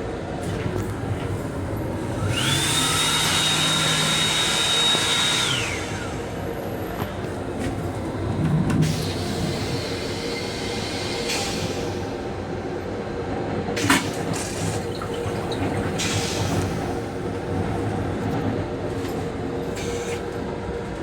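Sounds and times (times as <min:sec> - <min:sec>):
electric railcar rumble: 0:00.0 - 0:21.0.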